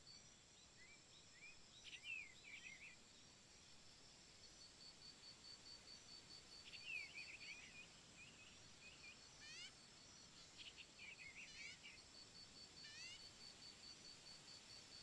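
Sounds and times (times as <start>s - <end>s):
distant small birds twittering: 0.0s - 3.3s, 4.6s - 15.0s.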